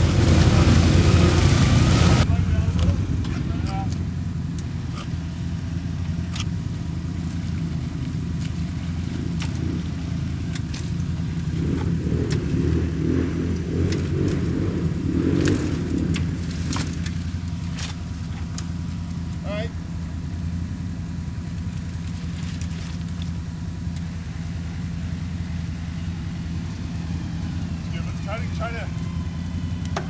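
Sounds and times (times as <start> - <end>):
atv engine running: 0.0 - 30.0
rough engine rumble: 0.0 - 30.0.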